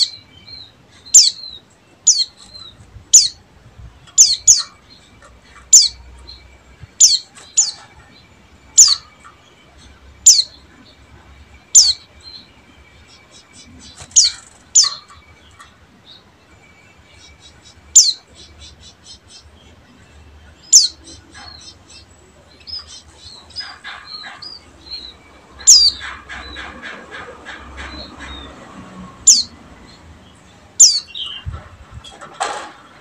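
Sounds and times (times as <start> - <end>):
bird singing twittering song: 0.0 - 32.2.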